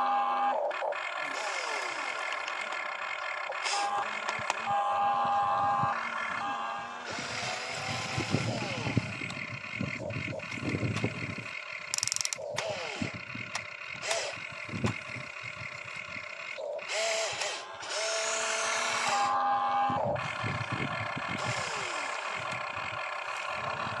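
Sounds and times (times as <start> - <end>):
small electric motors whining: 0.0 - 24.0.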